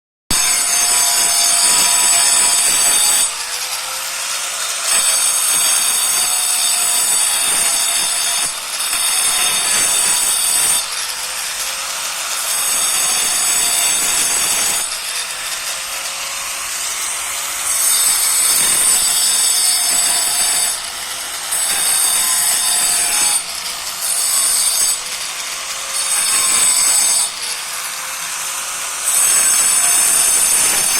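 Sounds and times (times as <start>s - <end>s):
power cutter grinding concrete: 0.3s - 30.9s.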